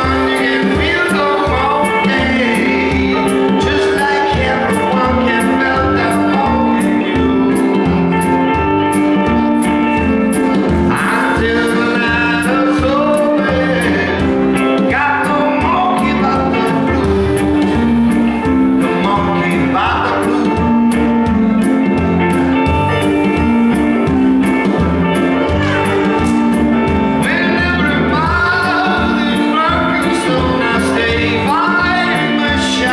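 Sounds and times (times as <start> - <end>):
drum kit with cymbal beat: 0.0 - 32.9
electric bass: 0.0 - 32.9
electric guitar: 0.0 - 32.9
keyboard: 0.0 - 32.9.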